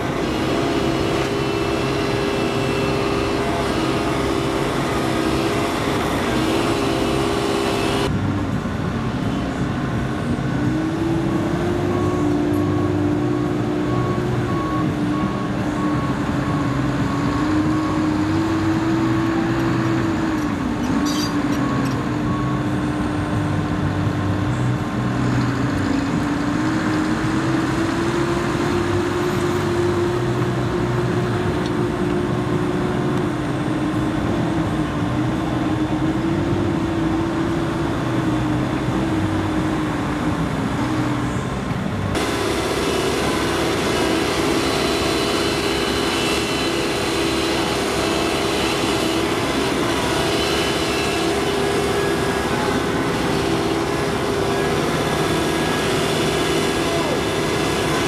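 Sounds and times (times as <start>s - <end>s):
excavator diesel engine: 0.0s - 58.0s
hydraulic whine: 0.0s - 58.0s.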